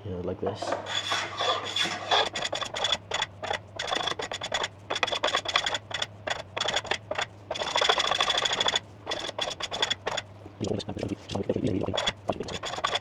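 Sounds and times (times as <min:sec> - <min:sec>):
hand tool scraping wood: 0:00.5 - 0:13.0.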